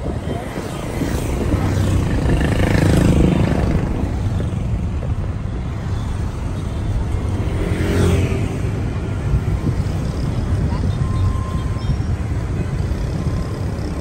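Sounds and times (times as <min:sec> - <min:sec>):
road noise: 0:00.0 - 0:14.0
vehicle engine rumble: 0:00.0 - 0:14.0.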